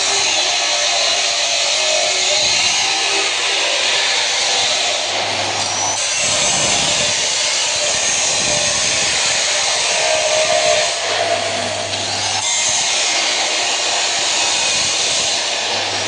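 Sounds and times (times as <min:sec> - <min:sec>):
angle grinder cutting: 0:00.0 - 0:16.0.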